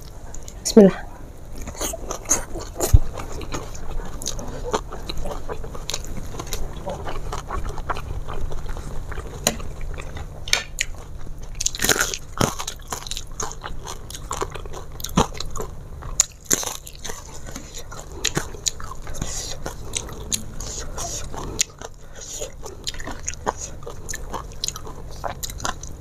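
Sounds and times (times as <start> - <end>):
person chewing and crunching food: 1.4 - 26.0.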